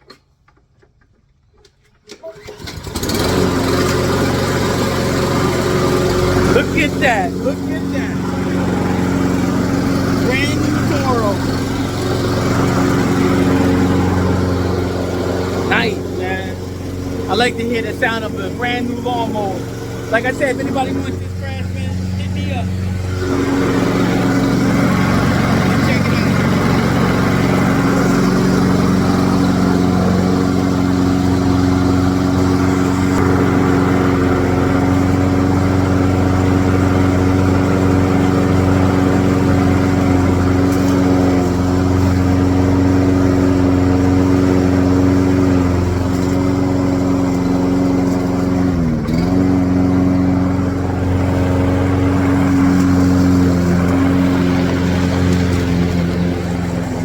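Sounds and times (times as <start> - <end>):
lawnmower engine running: 1.6 - 57.0.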